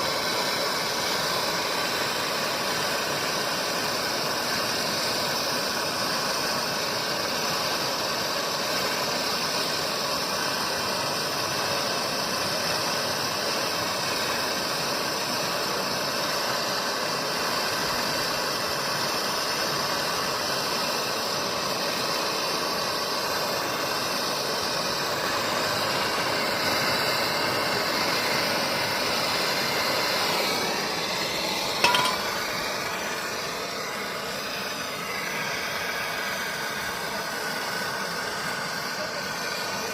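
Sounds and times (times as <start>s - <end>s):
machine hiss and hum: 0.0s - 39.9s.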